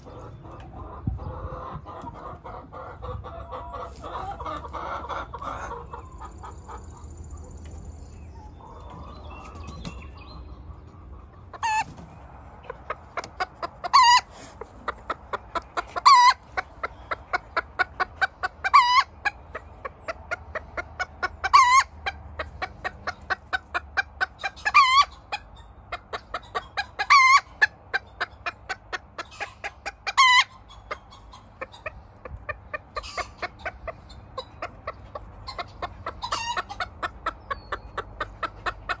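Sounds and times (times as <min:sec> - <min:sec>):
hen cackling: 0:00.0 - 0:07.2, 0:08.3 - 0:39.0.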